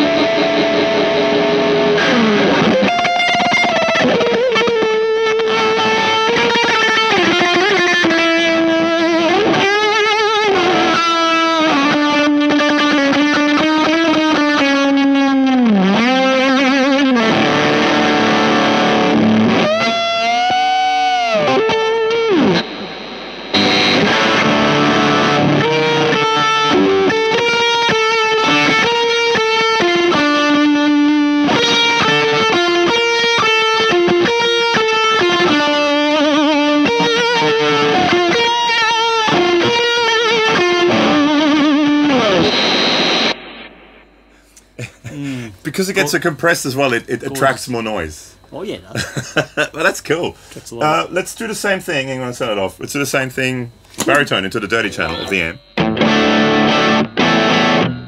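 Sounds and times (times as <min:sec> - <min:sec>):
fuzzed electric guitar: 0:00.0 - 0:58.0.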